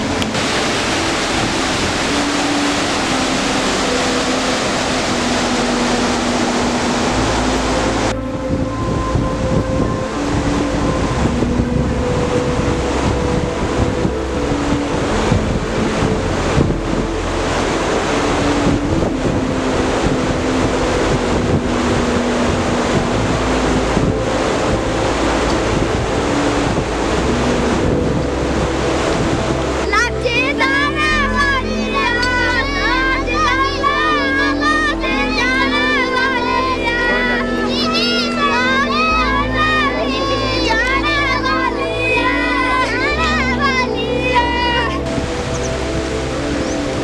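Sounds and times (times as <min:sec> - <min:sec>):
rushing stream water: 0:00.0 - 0:47.0
wind buffeting microphone: 0:00.0 - 0:47.0.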